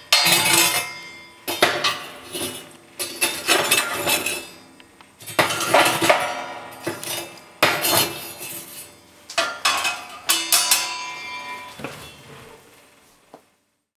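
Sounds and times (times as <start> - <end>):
metal sifter clanking in stove: 0.0 - 12.4
steel ringing: 0.0 - 12.6.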